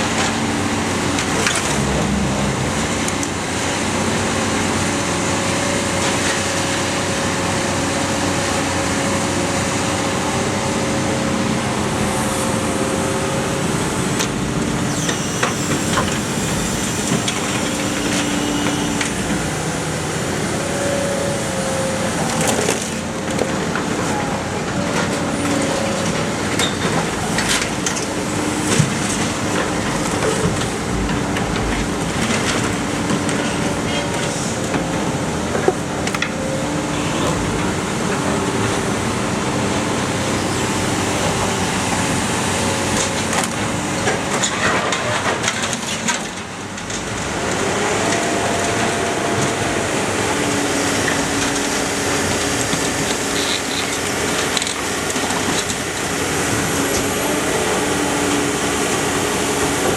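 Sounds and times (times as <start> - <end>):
hydraulic power unit droning: 0.0 - 44.4, 46.4 - 59.9.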